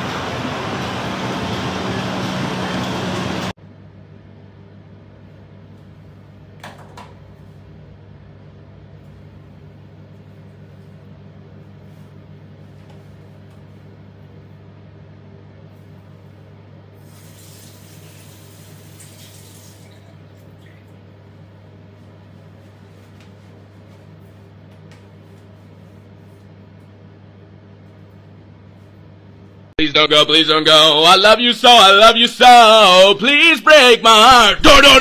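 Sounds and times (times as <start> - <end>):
steady low hum: 0.0 - 18.9, 20.0 - 34.8.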